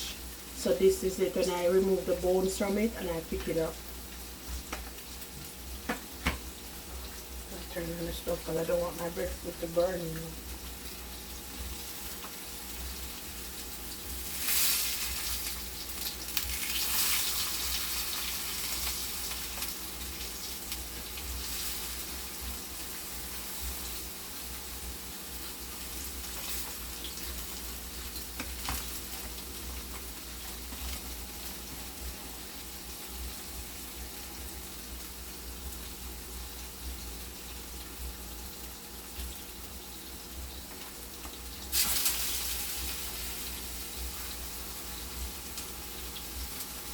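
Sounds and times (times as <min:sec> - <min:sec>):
food sizzling in hot oil: 0:00.0 - 0:46.9.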